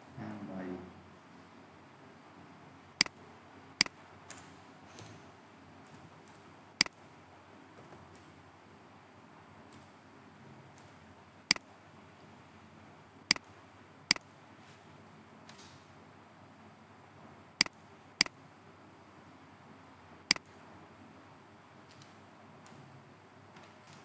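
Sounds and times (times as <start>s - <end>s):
faint room hiss: 0.0s - 24.0s.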